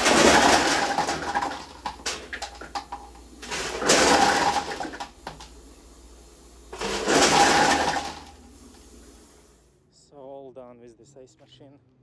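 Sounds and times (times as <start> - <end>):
ice machine rushing noise: 0.0 - 9.6
low steady hum: 0.0 - 9.9.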